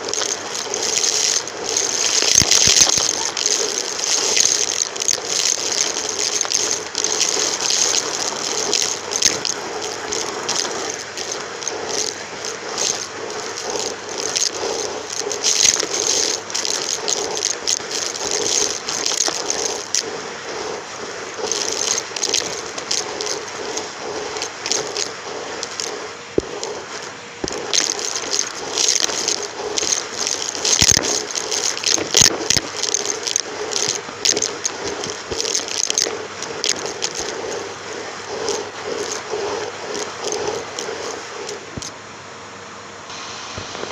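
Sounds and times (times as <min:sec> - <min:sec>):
debris crackling through vacuum: 0:00.0 - 0:41.9.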